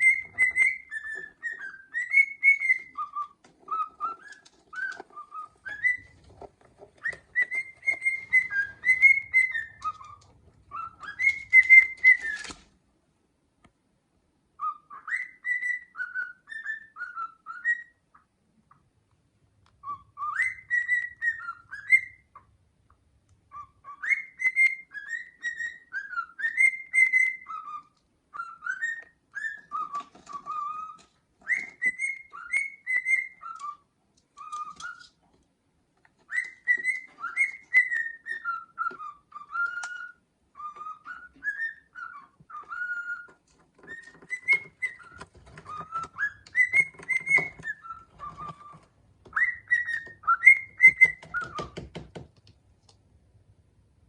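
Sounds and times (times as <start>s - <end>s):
cockatiel whistling a song: 0.0s - 12.6s, 14.6s - 18.3s, 19.7s - 22.6s, 23.4s - 35.2s, 36.2s - 52.2s.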